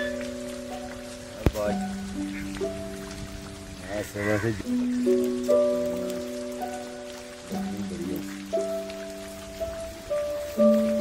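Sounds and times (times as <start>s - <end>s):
rain patter: 0.0s - 11.0s
soft music of long held notes: 0.0s - 11.0s.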